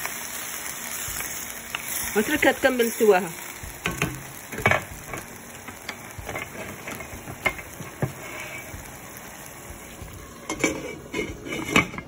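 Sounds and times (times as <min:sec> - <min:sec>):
pot sizzling: 0:00.0 - 0:12.0.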